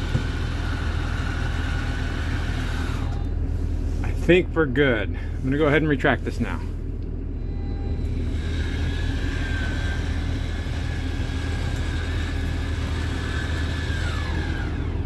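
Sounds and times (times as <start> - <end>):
drive motor whine: 0.0 - 15.0
steady low hum: 0.0 - 15.0.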